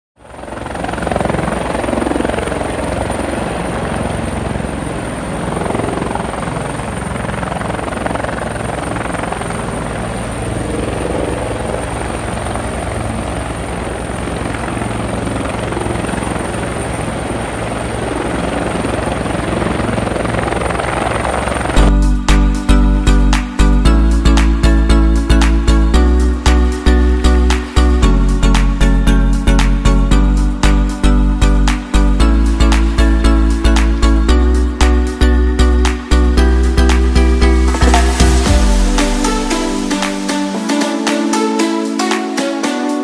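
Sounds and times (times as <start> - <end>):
helicopter rotor chopping: 0.2 - 42.8.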